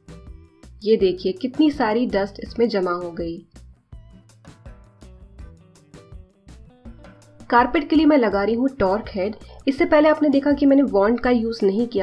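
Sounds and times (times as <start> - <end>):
guitar background music with beat: 0.0 - 9.7.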